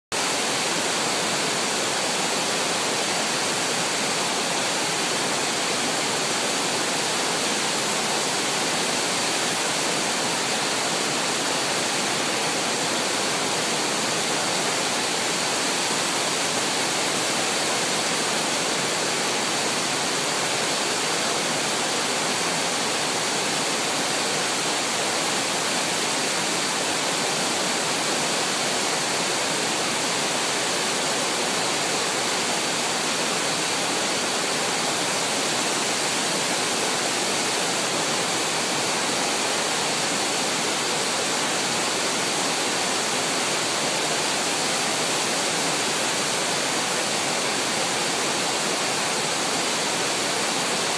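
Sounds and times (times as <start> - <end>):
waterfall rushing: 0.1 - 50.9.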